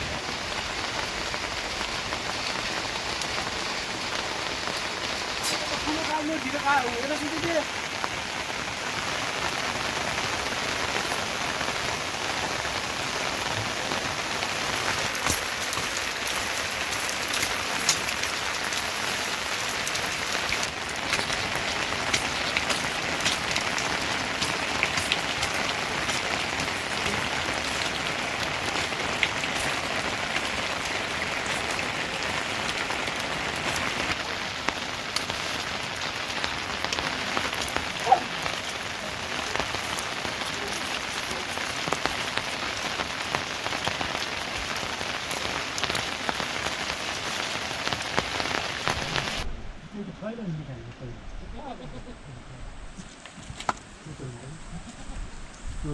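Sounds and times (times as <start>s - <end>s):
close raindrops striking: 0.0s - 52.2s
steady rain: 0.0s - 55.9s.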